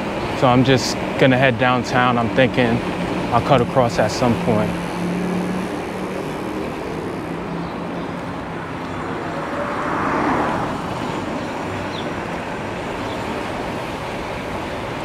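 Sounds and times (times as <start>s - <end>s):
road noise: 0.0s - 15.0s
rushing wind: 0.0s - 15.0s
traffic: 0.0s - 15.0s.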